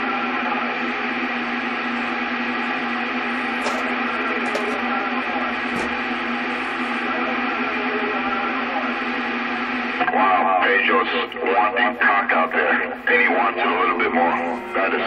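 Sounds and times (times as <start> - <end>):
radio static: 0.5 - 15.0.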